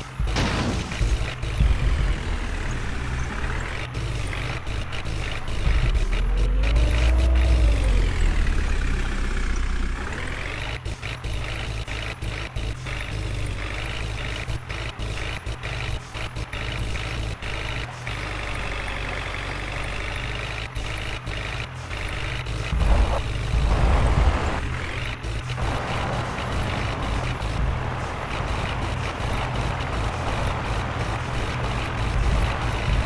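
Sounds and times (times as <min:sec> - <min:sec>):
diesel machinery engine running: 0:00.0 - 0:33.0.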